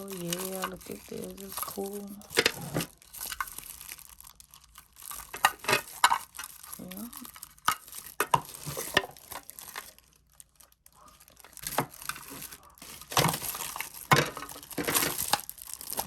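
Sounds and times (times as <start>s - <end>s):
packaging crinkling: 0.0s - 16.0s.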